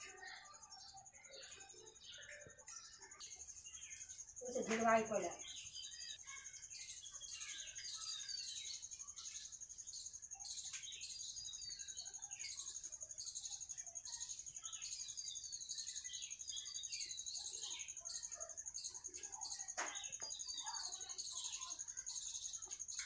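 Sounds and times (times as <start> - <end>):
bird chirps and calls: 0.0 - 23.0.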